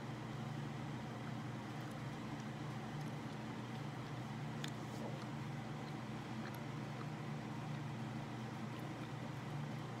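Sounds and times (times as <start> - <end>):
steady low hum: 0.0 - 10.0
closed-mouth chewing: 1.2 - 10.0.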